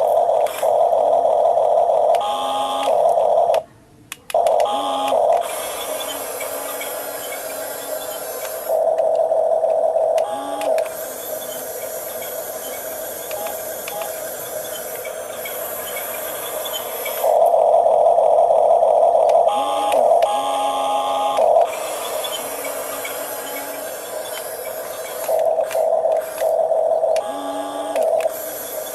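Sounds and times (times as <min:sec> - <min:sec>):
second motor humming: 0:04.4 - 0:28.9
small electric motors whining: 0:04.4 - 0:28.9.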